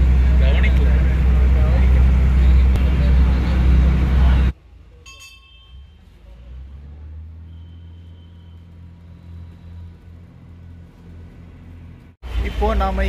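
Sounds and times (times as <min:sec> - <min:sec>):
diesel engine idling: 0:00.0 - 0:05.0, 0:06.0 - 0:13.0.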